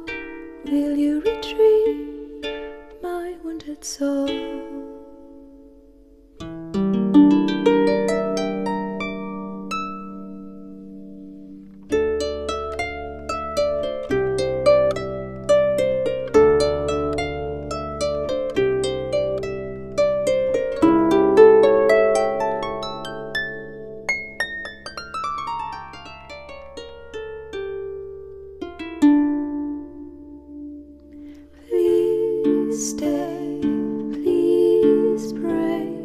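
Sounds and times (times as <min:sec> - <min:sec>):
plucked instrumental music: 0:00.0 - 0:36.0.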